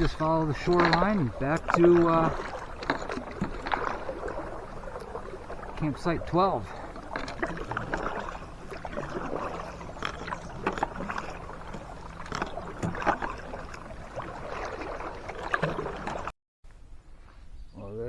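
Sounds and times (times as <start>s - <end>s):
paddle splashing in water: 0.0s - 16.3s.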